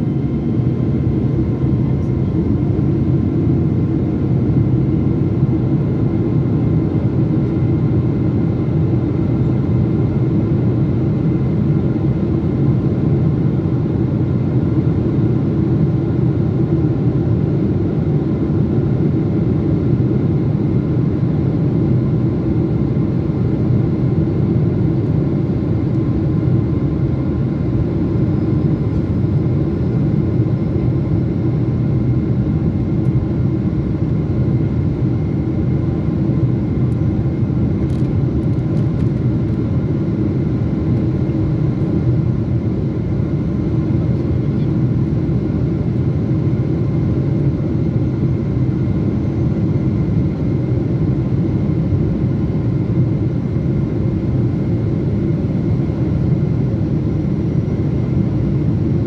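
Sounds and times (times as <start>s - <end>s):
jet engines and rushing air rumble: 0.0s - 59.0s.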